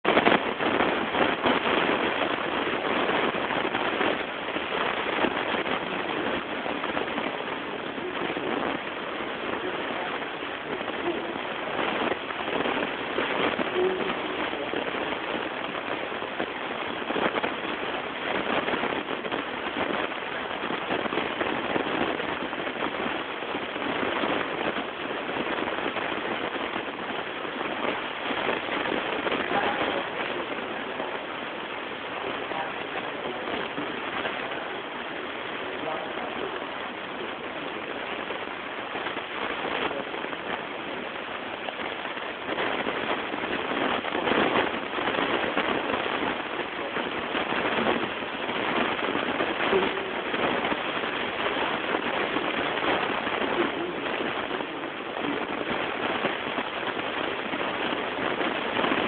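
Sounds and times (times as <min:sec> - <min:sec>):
steady rushing noise: 0:00.0 - 0:59.0.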